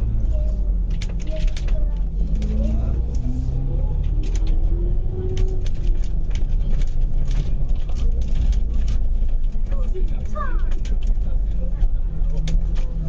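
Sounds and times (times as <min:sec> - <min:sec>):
bus engine and road rumble: 0:00.0 - 0:13.0
rattles and clicks of bus body: 0:00.0 - 0:13.0.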